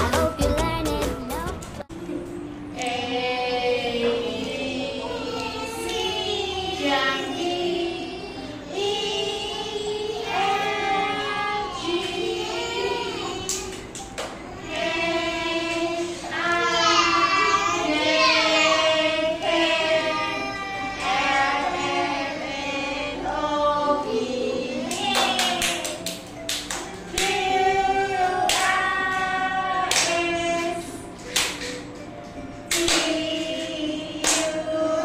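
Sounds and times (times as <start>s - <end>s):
voices singing children's song: 0.0s - 35.0s.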